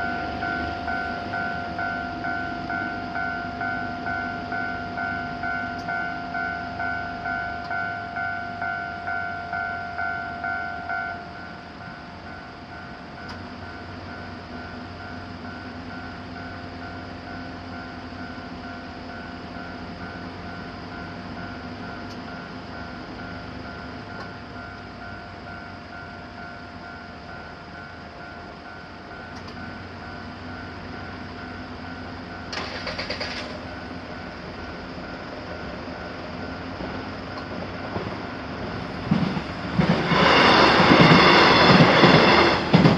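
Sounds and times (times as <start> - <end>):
rail traffic rumble: 0.0 - 42.9
railroad crossing bell ringing: 0.0 - 42.9.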